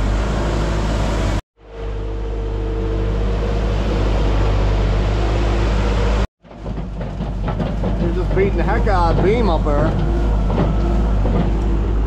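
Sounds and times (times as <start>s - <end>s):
diesel engine working hard: 0.0s - 12.0s.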